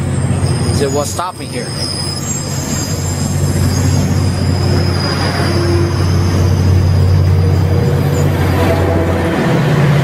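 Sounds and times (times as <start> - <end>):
diesel locomotive drone: 0.0 - 10.0
thin high whine: 0.1 - 9.1
passenger cars rolling past: 1.8 - 10.0.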